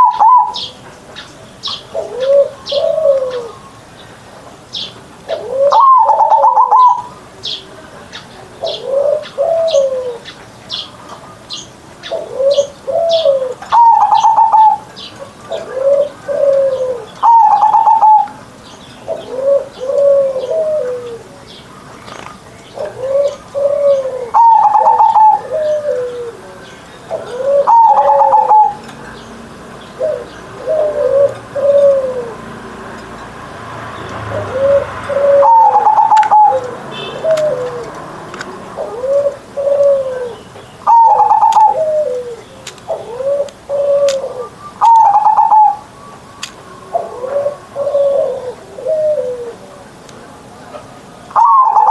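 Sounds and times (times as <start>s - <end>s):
dove cooing: 0.0s - 0.8s, 1.6s - 3.8s, 5.2s - 33.0s, 33.9s - 50.0s, 51.3s - 51.9s.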